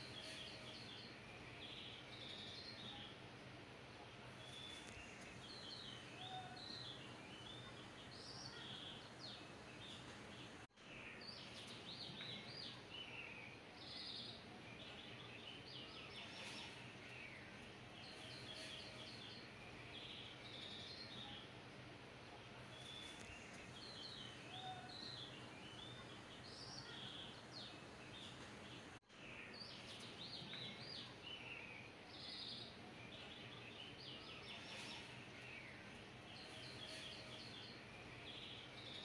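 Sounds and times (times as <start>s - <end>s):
small birds chirping: 0.0s - 39.0s
steady low hiss: 0.0s - 39.0s.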